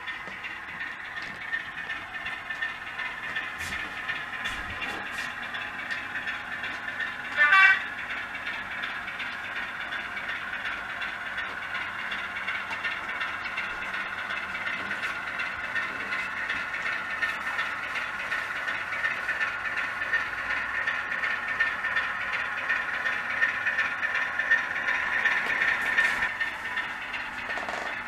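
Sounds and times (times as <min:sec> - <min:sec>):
diesel engine sound from speaker: 0:00.0 - 0:28.0
wheels clattering on model track: 0:00.0 - 0:28.0.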